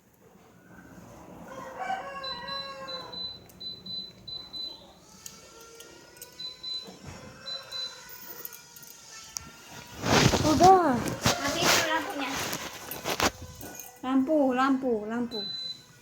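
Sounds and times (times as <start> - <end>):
air conditioner whine rising: 0.0 - 13.7.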